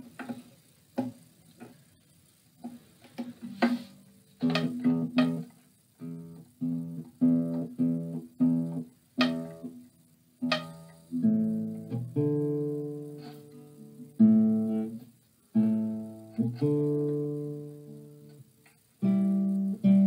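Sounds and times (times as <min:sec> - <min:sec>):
nylon-string guitar fingerpicked: 0:00.0 - 0:02.0, 0:02.6 - 0:20.0.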